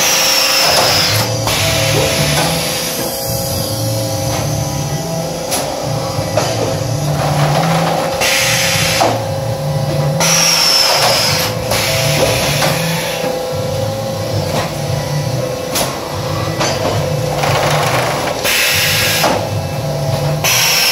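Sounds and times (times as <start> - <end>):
machine hum: 0.0 - 20.9.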